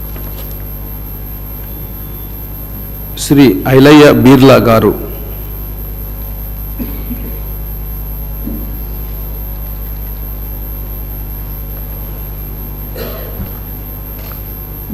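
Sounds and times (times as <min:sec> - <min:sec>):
low electrical hum: 0:00.0 - 0:14.9.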